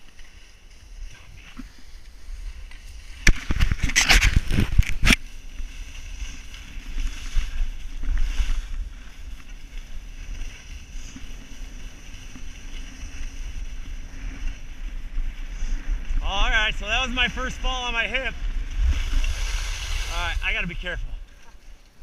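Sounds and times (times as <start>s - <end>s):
skis scraping over hard snow: 0.0s - 22.0s
wind on microphone: 1.0s - 21.3s.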